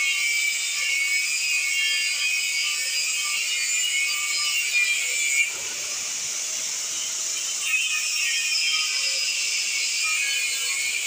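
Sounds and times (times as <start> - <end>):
angle grinder cutting metal: 0.0 - 11.0
angle grinder running freely: 0.0 - 11.0.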